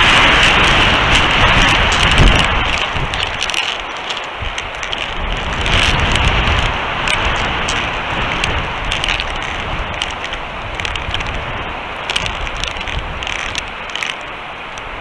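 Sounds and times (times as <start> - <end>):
sharp ticks: 0.0 - 14.9
strong wind buffeting microphone: 0.0 - 15.0.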